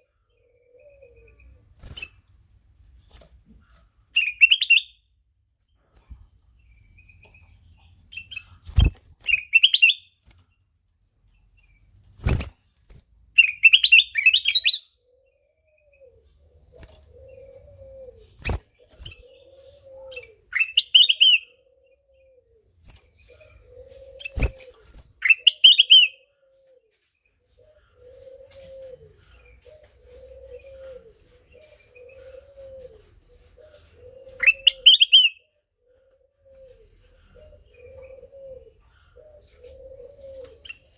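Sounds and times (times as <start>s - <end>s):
bulbul singing: 0.0s - 5.1s, 5.9s - 26.8s, 27.5s - 40.9s
high insect drone: 0.0s - 40.9s.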